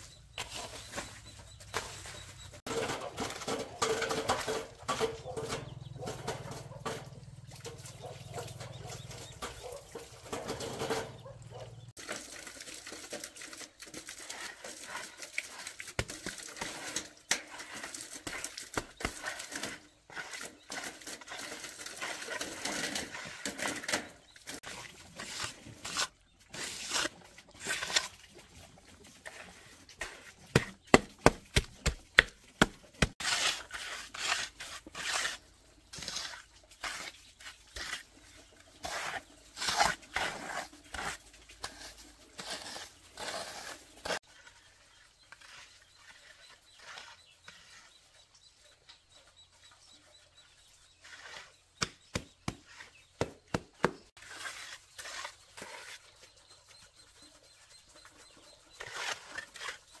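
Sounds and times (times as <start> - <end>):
trowel scraping wet concrete: 0.0 - 48.4, 50.4 - 60.0.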